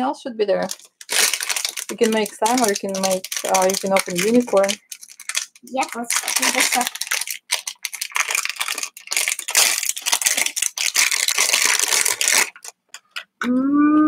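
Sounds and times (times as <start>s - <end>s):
foil pouch crinkling: 0.6s - 13.3s.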